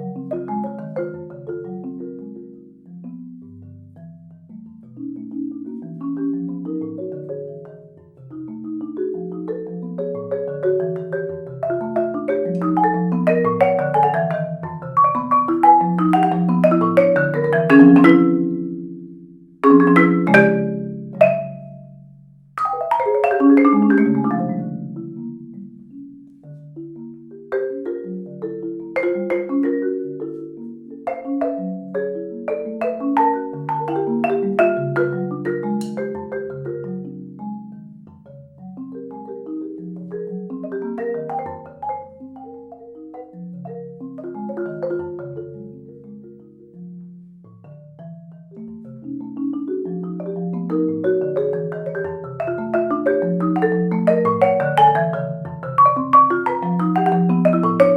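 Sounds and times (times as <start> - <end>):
marimba played with mallets: 0.0 - 57.9.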